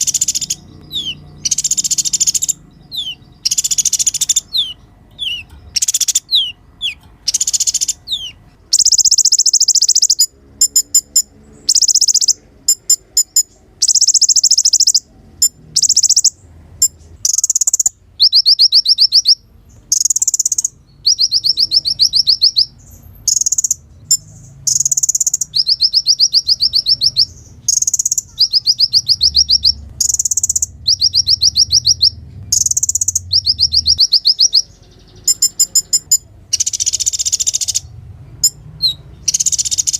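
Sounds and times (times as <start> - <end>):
sunbird singing high trills: 0.0 - 39.9.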